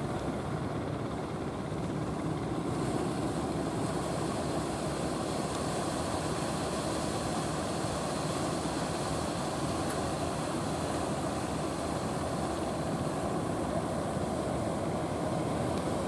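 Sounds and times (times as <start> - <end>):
boat engine droning: 0.0 - 16.0
water wash and surf: 0.0 - 16.0.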